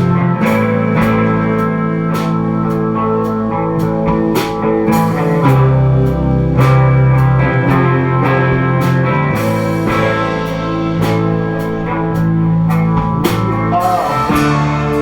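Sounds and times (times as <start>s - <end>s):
drum kit beat: 0.0s - 15.0s
electric guitars and bass: 0.0s - 15.0s.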